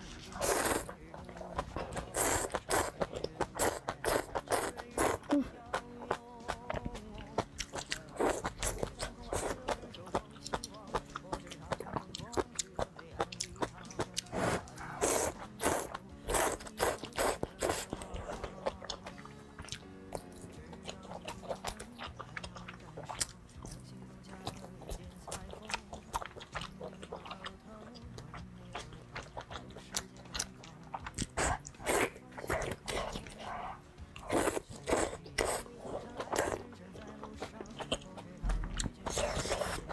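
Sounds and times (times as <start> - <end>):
person chewing food: 0.0 - 39.9
soft background music: 0.0 - 39.9.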